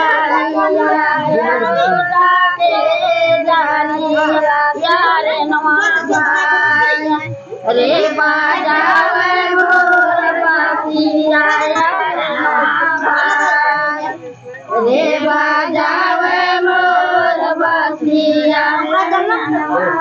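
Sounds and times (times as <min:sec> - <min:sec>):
women and girls singing: 0:00.0 - 0:20.0.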